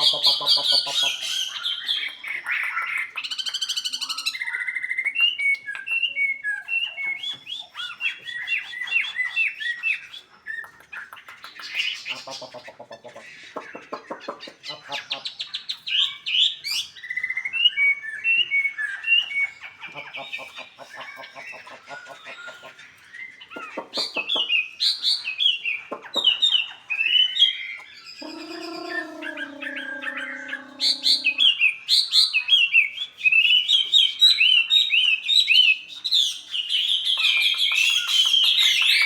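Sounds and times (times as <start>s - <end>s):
songbird chirping and trilling: 0.0s - 39.0s.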